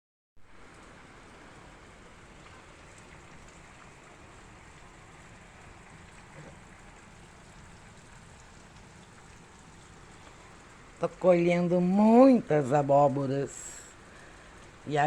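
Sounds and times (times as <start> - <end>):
steady rain falling: 0.4 - 15.0.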